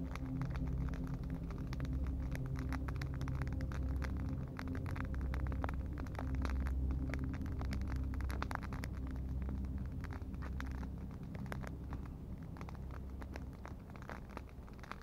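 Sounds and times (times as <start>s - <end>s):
campfire crackling and popping: 0.0s - 15.0s
low steady rumble: 0.0s - 15.0s.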